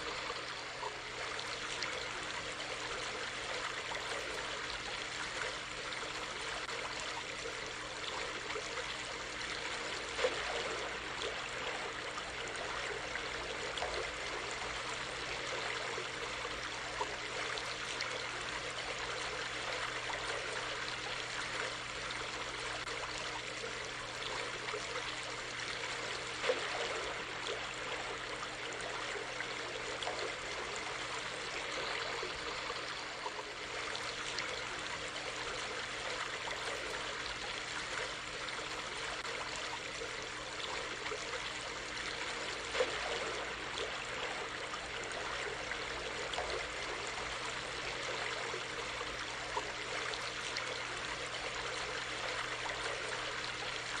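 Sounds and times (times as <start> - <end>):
stream of running water: 0.0 - 54.0
water splashes: 0.0 - 54.0.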